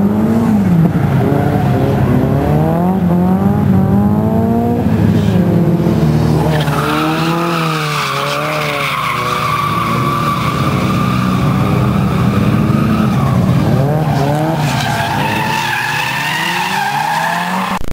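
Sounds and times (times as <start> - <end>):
car engines revving: 0.0 - 17.9.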